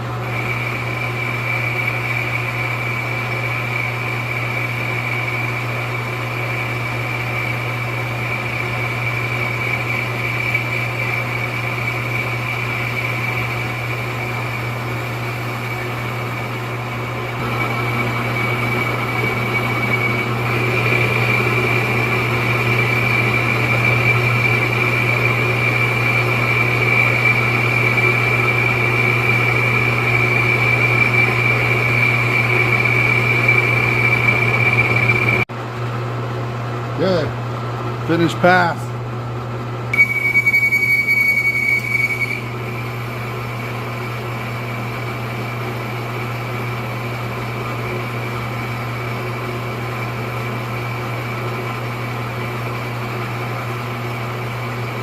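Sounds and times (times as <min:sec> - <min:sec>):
metal lathe cutting: 0:00.0 - 0:35.4, 0:39.9 - 0:55.0.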